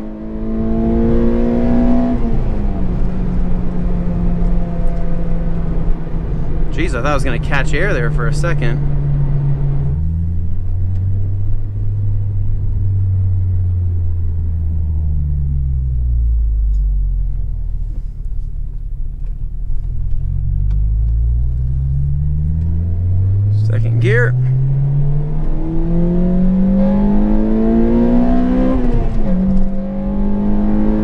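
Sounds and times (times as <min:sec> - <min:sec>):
car engine deep exhaust note: 0:00.0 - 0:31.0.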